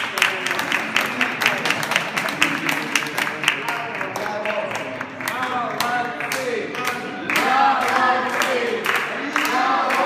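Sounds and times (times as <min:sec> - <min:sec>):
audience clapping in rhythm: 0:00.0 - 0:10.0.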